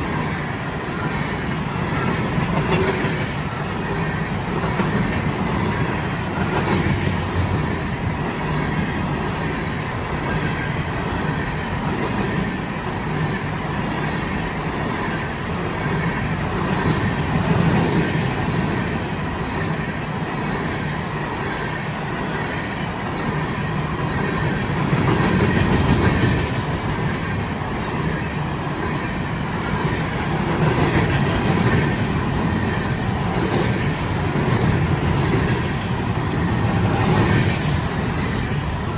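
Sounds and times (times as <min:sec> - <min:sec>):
freight train wheels rumbling: 0:00.0 - 0:38.9
train wheel clicks: 0:01.0 - 0:38.7.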